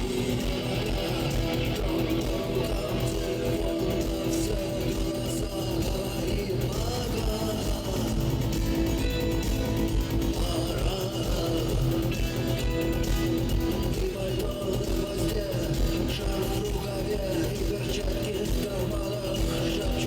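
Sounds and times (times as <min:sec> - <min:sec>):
rock band instrumental with guitar: 0:00.0 - 0:20.0.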